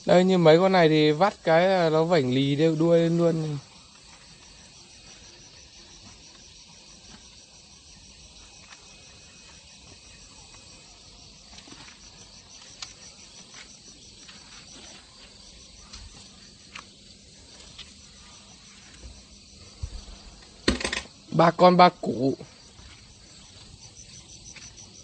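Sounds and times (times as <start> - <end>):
insect chirping: 0.0 - 25.0.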